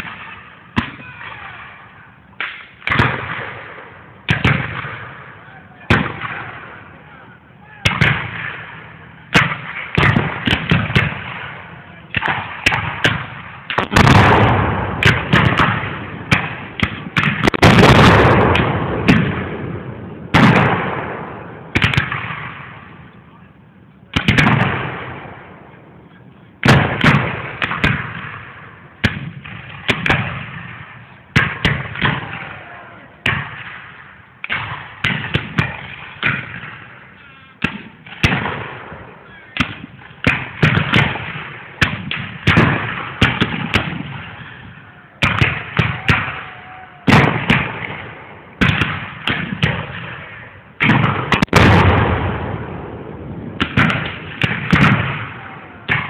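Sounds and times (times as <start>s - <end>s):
musket shots echoing: 0.0s - 7.0s, 7.8s - 23.0s, 24.1s - 25.7s, 26.6s - 46.5s, 47.1s - 56.0s.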